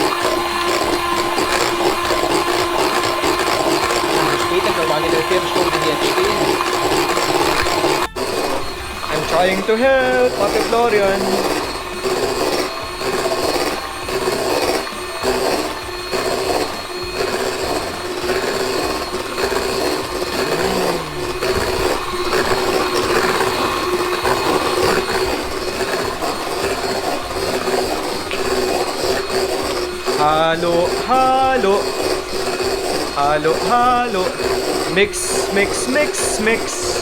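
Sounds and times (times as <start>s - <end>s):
beaters swishing in bowl: 0.0s - 37.0s
electric mixer beating batter: 0.0s - 37.0s.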